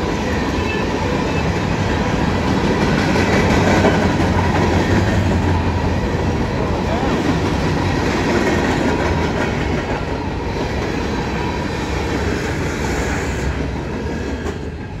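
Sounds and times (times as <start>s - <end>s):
steel wheels on rails: 0.0s - 15.0s.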